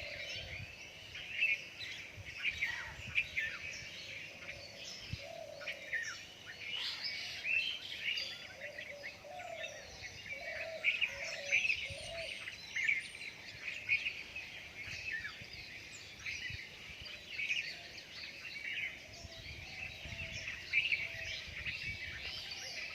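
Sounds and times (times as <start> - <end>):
birds chirping and singing: 0.0 - 22.9
low warbling bird calls: 0.0 - 22.9.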